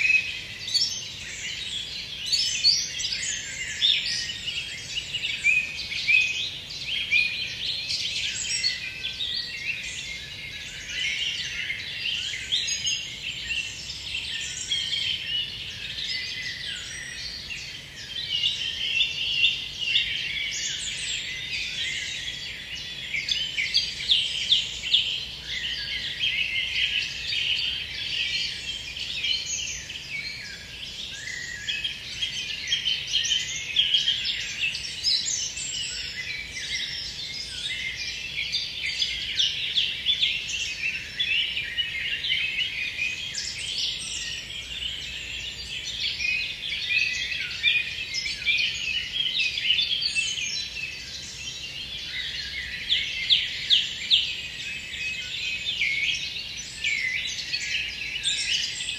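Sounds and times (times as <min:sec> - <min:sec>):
songbirds chorus: 0:00.0 - 0:58.9.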